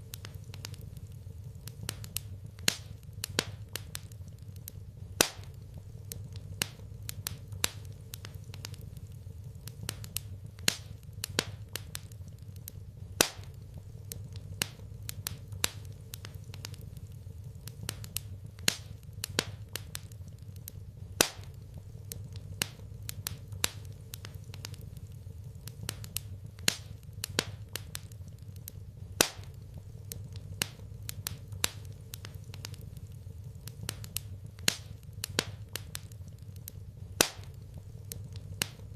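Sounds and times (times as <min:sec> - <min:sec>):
steady low hum: 0:00.0 - 0:38.9
wood fire crackling: 0:00.0 - 0:38.9.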